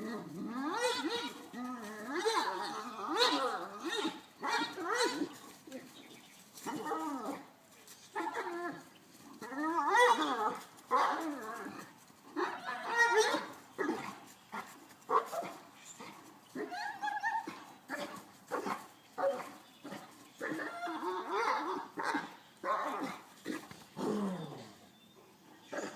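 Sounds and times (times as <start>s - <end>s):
dogs barking and whining: 0.0s - 5.8s, 6.6s - 24.9s, 25.6s - 25.9s.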